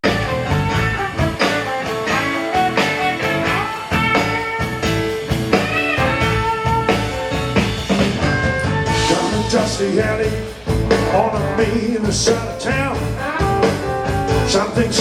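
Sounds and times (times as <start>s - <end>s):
blues band playing: 0.0s - 15.0s
guitar: 0.0s - 15.0s
steady drum beat: 0.0s - 15.0s.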